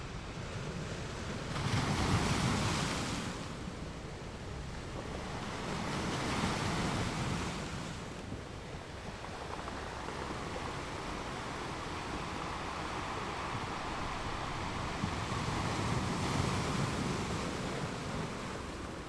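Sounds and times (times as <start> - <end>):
ocean waves washing onto shore: 0.0 - 19.0.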